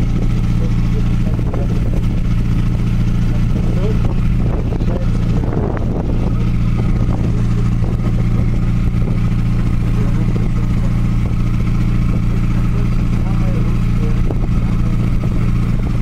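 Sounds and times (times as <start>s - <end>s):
ferry engine low drone: 0.0s - 16.0s.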